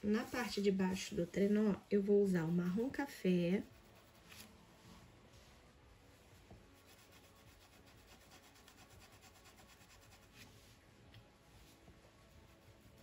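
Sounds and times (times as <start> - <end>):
paintbrush rubbing on fabric: 0.0 - 13.0.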